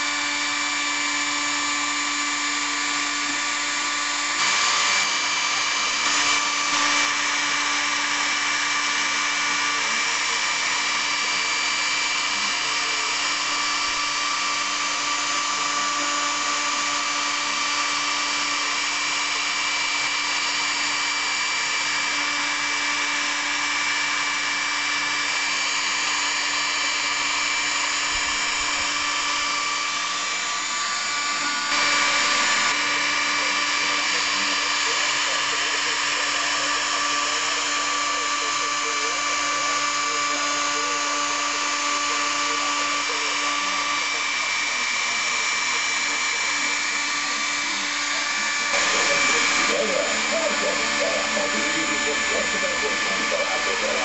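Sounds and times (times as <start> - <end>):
bit milling wood: 0.0 - 54.0
router spindle motor whine: 0.0 - 54.0.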